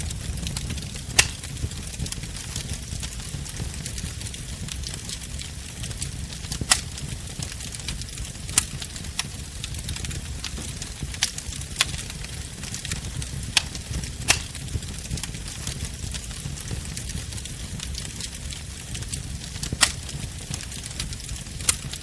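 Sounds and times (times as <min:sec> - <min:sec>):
burning wood popping: 0:00.0 - 0:22.0
wood fire crackling: 0:00.0 - 0:22.0.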